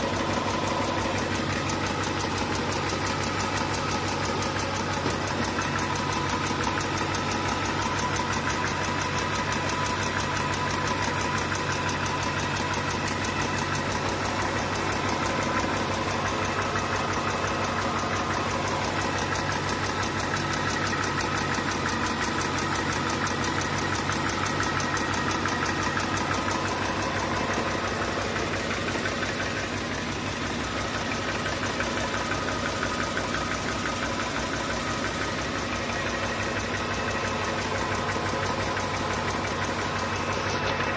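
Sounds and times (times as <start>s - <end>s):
engine idling with whine: 0.0s - 40.9s.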